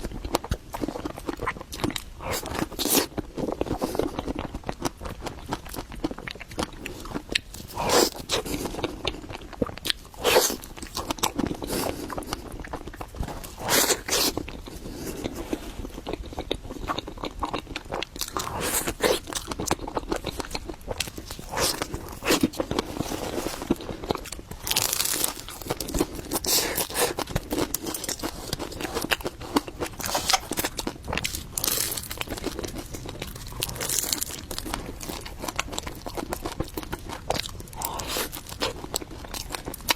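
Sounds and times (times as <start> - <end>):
person biting and chewing cake: 0.0 - 39.9.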